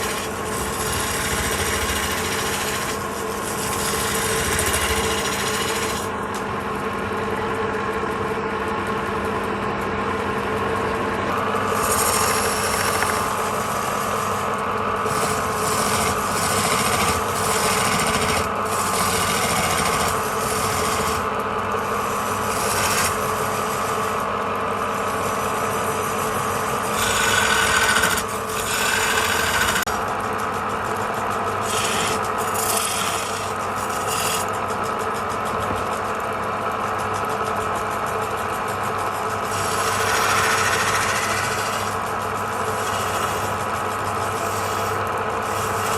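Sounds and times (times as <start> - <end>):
lathe motor running: 0.0 - 45.9
tool scraping spinning wood: 0.0 - 45.9.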